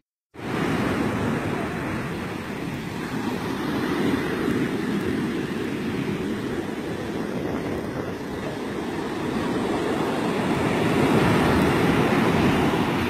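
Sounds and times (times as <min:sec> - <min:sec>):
ocean surf breaking: 0:00.4 - 0:13.0.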